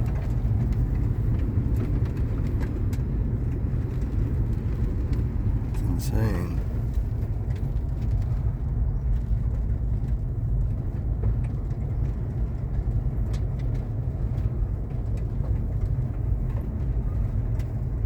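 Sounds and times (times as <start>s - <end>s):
engine rumble: 0.0s - 18.0s
tyres on road: 0.0s - 18.0s.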